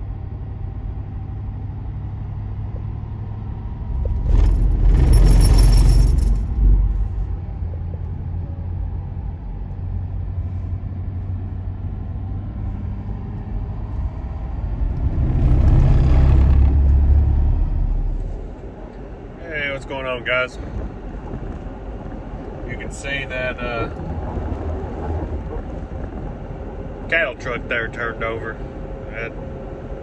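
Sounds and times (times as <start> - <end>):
road and engine rumble: 0.0 - 30.0.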